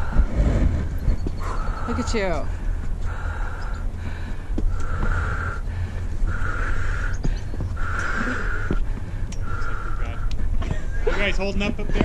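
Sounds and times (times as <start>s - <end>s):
wind rumble on microphone: 0.0s - 12.0s
person breathing hard: 1.4s - 11.3s.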